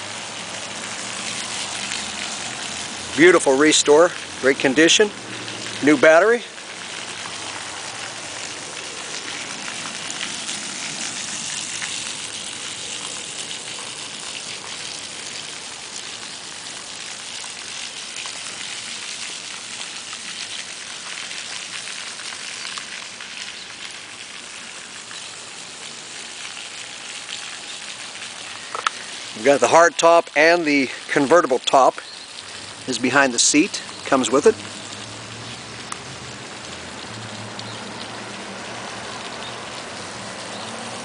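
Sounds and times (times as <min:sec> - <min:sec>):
steady hiss with light patter: 0:00.0 - 0:41.0.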